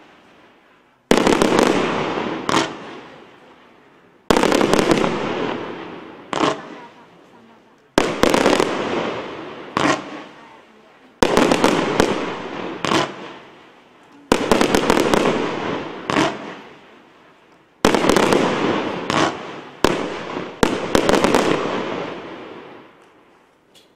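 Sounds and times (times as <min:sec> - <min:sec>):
fireworks bangs: 0:00.0 - 0:23.9.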